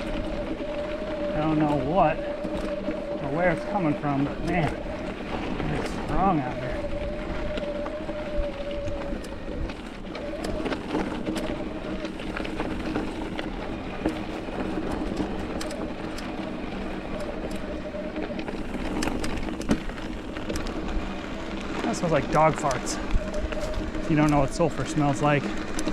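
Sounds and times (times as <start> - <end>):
bike clicks and rattles: 0.0 - 25.9
mountain bike tyre noise: 0.0 - 25.9.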